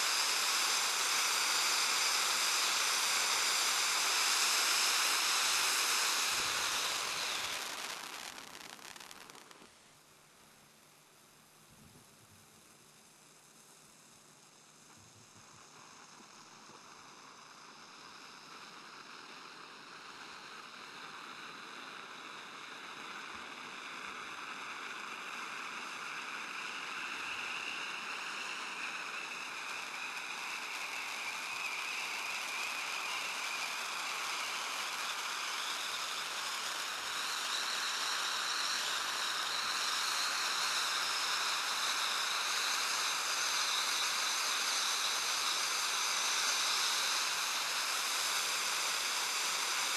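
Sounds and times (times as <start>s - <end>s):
firework fountain sparks hissing: 0.0s - 49.9s.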